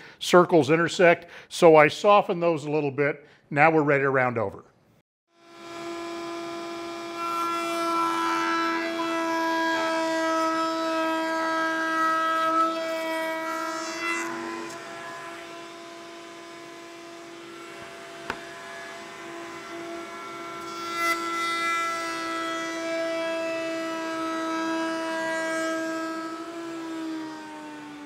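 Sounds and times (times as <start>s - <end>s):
router high whine: 5.4s - 28.0s.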